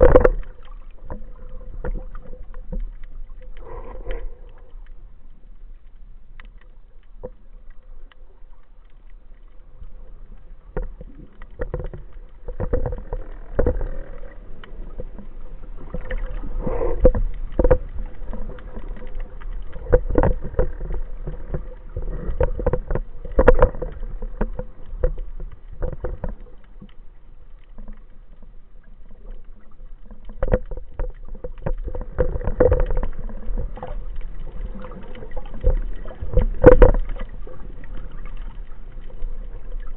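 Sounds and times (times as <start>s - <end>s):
knocks and crackles: 0.0s - 39.9s
low underwater rumble: 0.0s - 39.9s
underwater churn and bubbles: 0.0s - 39.9s.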